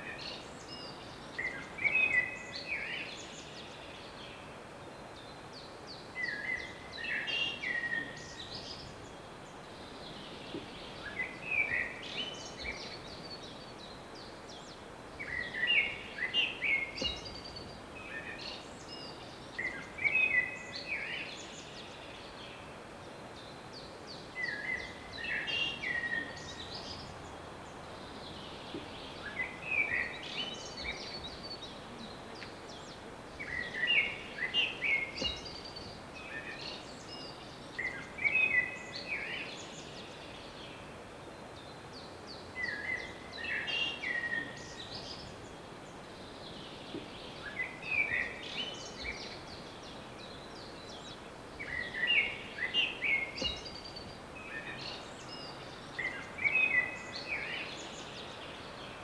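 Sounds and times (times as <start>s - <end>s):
outdoor background hiss: 0.0s - 59.0s
songbird twittering: 0.0s - 59.0s.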